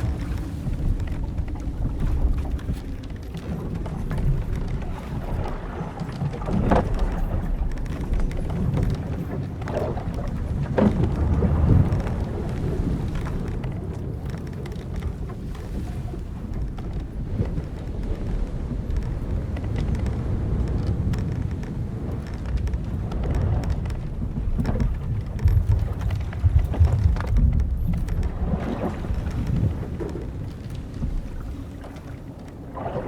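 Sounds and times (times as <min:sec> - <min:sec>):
timbers and rigging creaking: 0:00.0 - 0:32.7
waves and wind against hull: 0:00.0 - 0:33.0.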